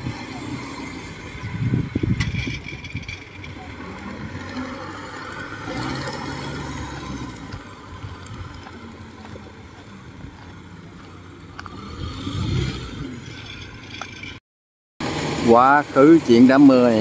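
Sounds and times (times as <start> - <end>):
crawler cart engine running: 0.0 - 14.4.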